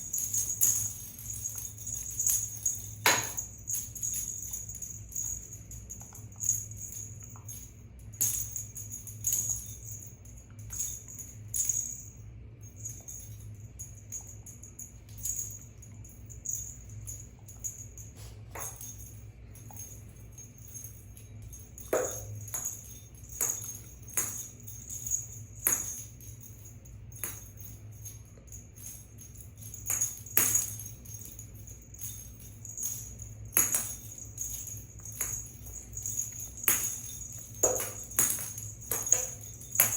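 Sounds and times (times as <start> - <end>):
low steady hum: 0.0 - 39.9
small bell jingling: 0.0 - 39.9.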